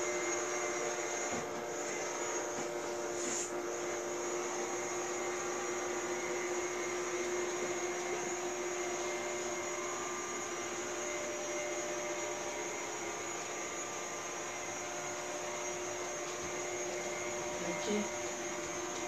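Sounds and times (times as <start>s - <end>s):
motor whine: 0.0s - 19.0s
robot vacuum fan whir: 0.0s - 19.0s.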